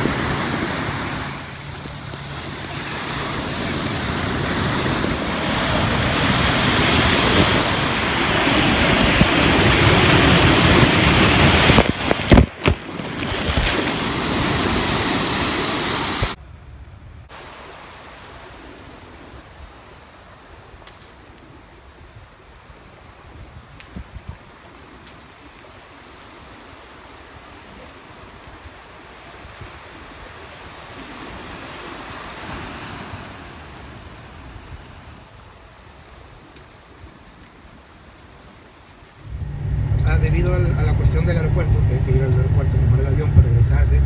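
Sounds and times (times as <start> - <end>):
surf breaking on beach: 0.0 - 16.4, 17.3 - 44.0
wind on microphone: 0.0 - 16.4, 18.3 - 44.0
calm sea washing: 0.0 - 44.0.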